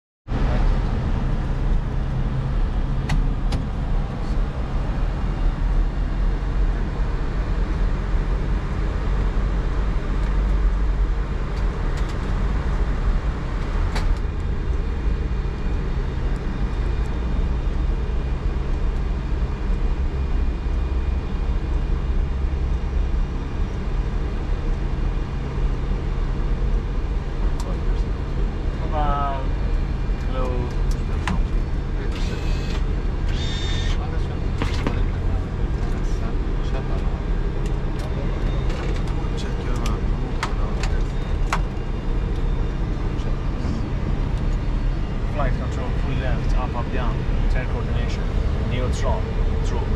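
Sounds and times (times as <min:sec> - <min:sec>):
aircraft engines low hum: 0:00.3 - 0:49.9.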